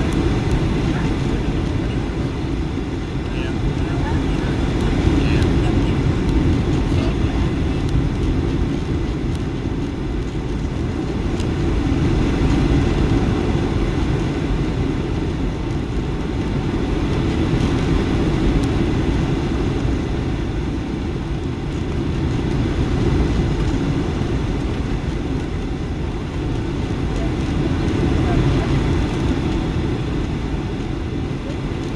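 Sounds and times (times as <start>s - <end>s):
airplane cabin engine rumble: 0.0s - 31.9s.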